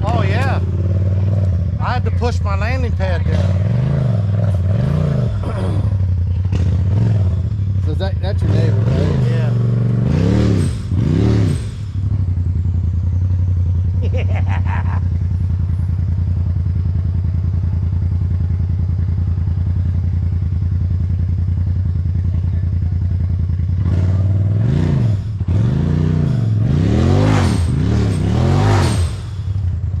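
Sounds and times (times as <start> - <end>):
vehicle engine running and revving: 0.0 - 30.0.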